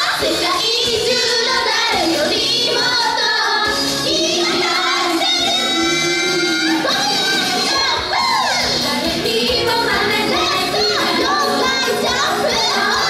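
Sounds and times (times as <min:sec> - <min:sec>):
backing music: 0:00.0 - 0:13.0
young women singing pop song: 0:00.0 - 0:13.0.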